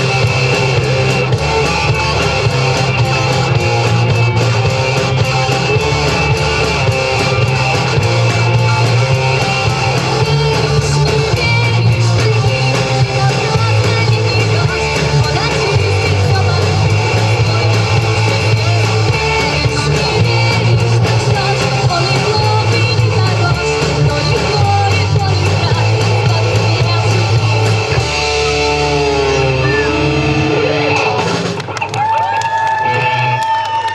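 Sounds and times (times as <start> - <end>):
bass line: 0.0 - 33.8
rock band playing: 0.0 - 33.9.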